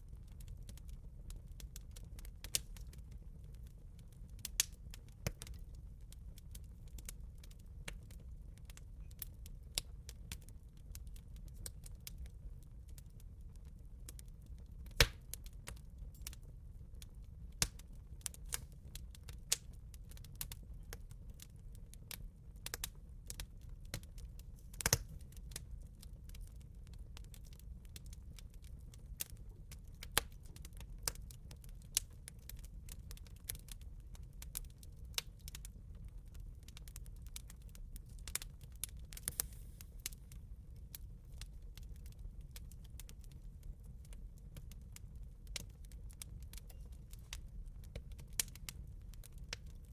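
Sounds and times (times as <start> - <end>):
low rumble of fire: 0.0 - 49.9
campfire crackling and popping: 0.2 - 49.9.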